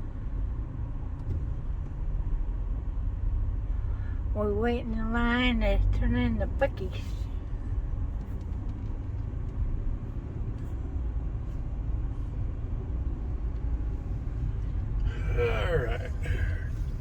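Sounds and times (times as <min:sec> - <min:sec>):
road noise: 0:00.0 - 0:17.0
car engine from inside cabin: 0:00.5 - 0:17.0.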